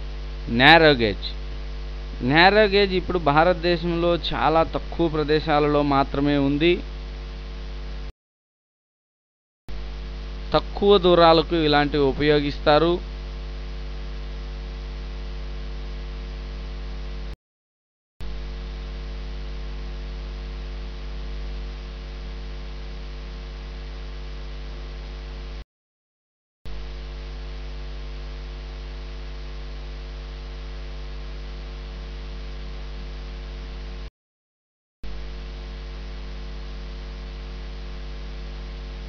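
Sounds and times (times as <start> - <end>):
electrical mains hum with hiss: 0.0 - 8.1, 9.7 - 17.4, 18.2 - 25.6, 26.7 - 34.1, 35.1 - 39.0.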